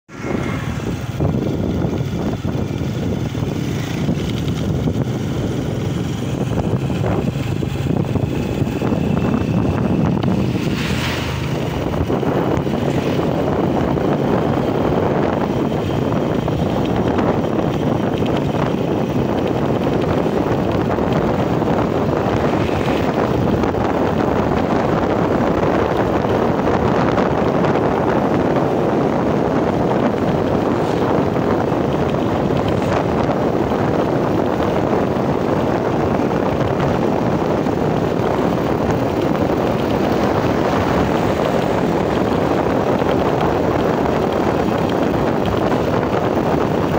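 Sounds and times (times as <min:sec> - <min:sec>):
wind rushing over microphone: 0:00.0 - 0:46.9
motorcycle engine running: 0:00.1 - 0:46.9.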